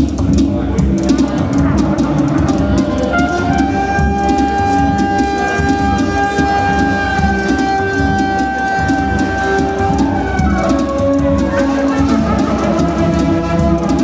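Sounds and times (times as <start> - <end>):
low synth pattern: 0.0 - 14.0
ticking percussion: 0.0 - 14.0.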